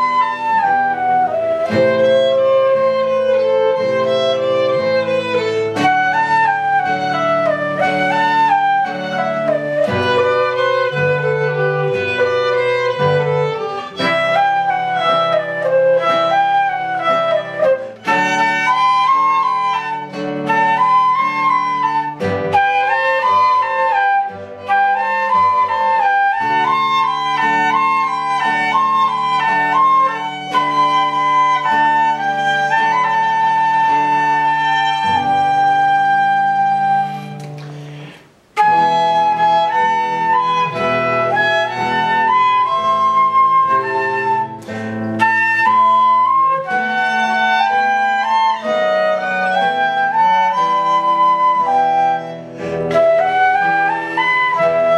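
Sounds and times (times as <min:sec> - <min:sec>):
flute-like wind instrument melody: 0:00.0 - 0:54.9
strings: 0:00.0 - 0:54.9.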